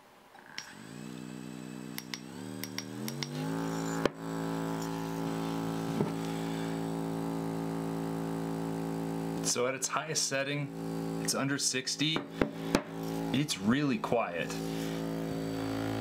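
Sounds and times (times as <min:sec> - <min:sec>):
massage gun humming: 0:00.4 - 0:09.6, 0:10.4 - 0:11.6, 0:12.2 - 0:16.0.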